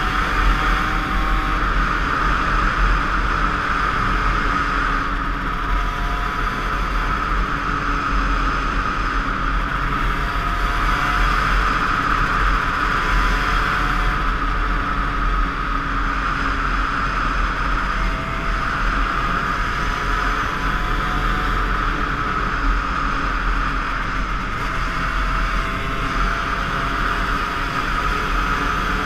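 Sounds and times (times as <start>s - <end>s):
two-stroke motorcycle engine running: 0.0s - 29.0s.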